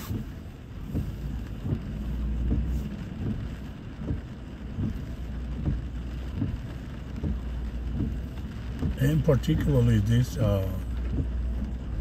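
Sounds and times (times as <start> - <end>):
rain hissing on a car: 0.0 - 12.0
road and engine rumble: 0.0 - 12.0
windshield wipers thumping: 0.0 - 12.0.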